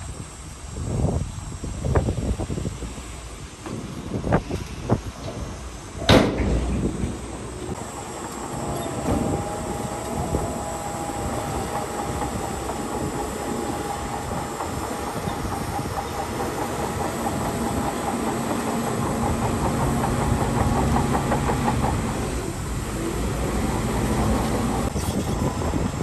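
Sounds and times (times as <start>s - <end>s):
steel tracks clanking: 3.0s - 26.0s
bulldozer diesel engine: 5.0s - 26.0s.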